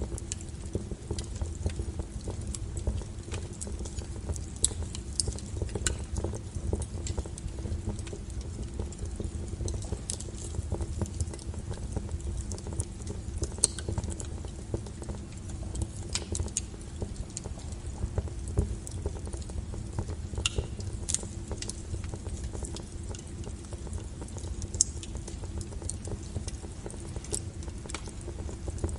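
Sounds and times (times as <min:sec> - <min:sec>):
firewood crackling and popping: 0:00.0 - 0:28.9
low rush of flame: 0:00.0 - 0:28.9.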